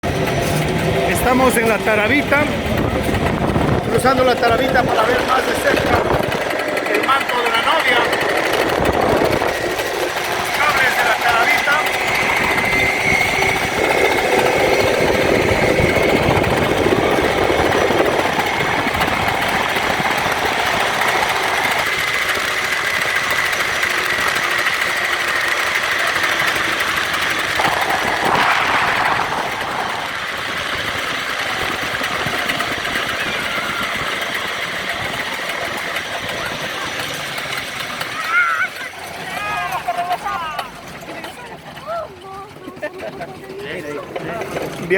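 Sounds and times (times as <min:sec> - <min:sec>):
high whine from cable pulleys: 0:00.0 - 0:43.0
cable car mechanical running: 0:00.0 - 0:44.9
continuous rushing noise: 0:00.0 - 0:44.9.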